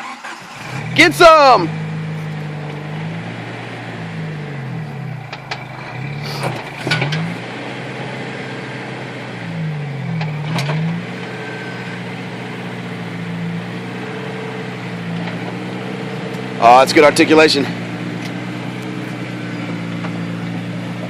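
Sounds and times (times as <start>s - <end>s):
car engine running at low revs: 0.4s - 21.0s.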